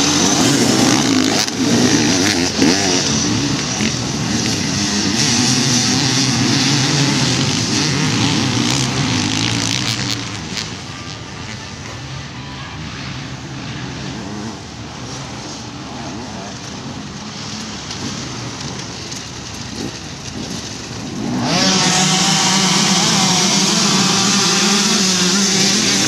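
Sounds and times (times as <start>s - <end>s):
dirt bike engine revving: 0.0s - 26.0s
pack of dirt bikes roaring: 0.0s - 26.0s.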